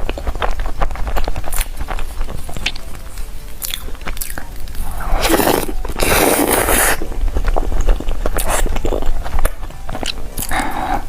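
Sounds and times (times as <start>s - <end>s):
cake being bitten and chewed: 0.0s - 11.0s.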